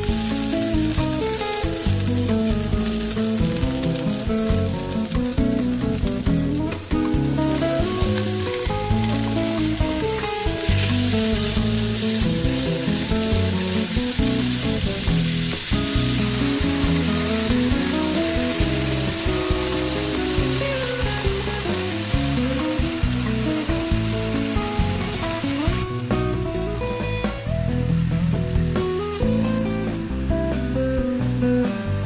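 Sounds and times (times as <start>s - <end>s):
onions sizzling in a pan: 0.0s - 31.7s
background music with held notes: 0.0s - 32.0s.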